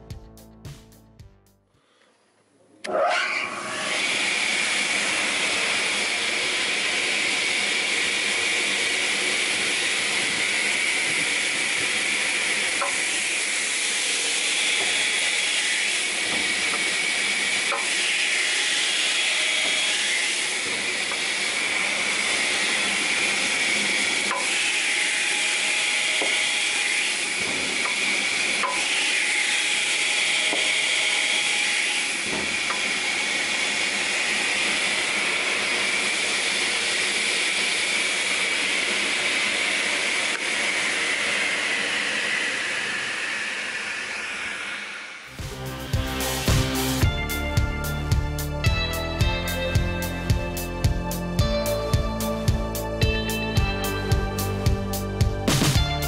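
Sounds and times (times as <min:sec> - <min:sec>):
circular saw whirring: 0:02.8 - 0:56.0.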